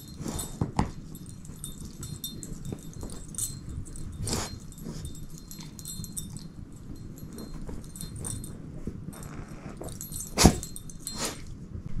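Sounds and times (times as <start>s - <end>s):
collar tags jingling: 0.0s - 11.6s
dog chewing plush toy: 0.1s - 11.4s.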